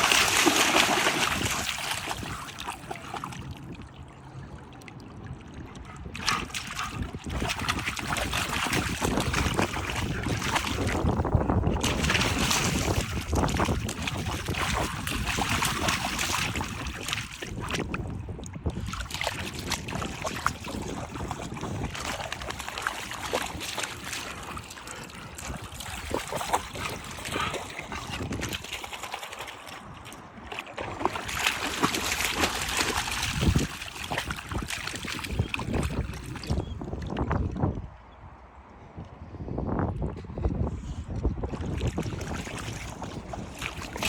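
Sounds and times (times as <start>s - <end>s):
wind buffeting microphone: 0.0s - 4.6s, 5.2s - 44.0s.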